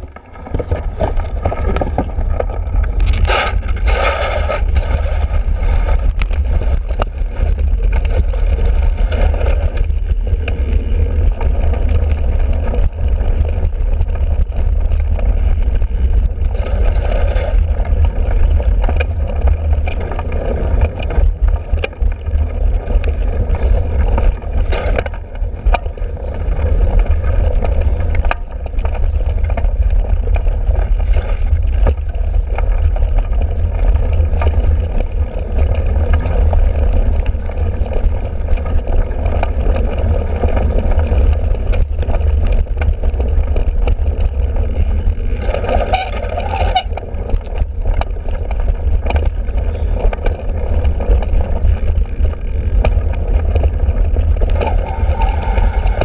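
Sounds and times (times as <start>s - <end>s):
bike knocks and rattles: 0.0s - 56.0s
low rumble of bike on grass: 0.0s - 56.0s
wind buffeting microphone: 0.0s - 56.0s.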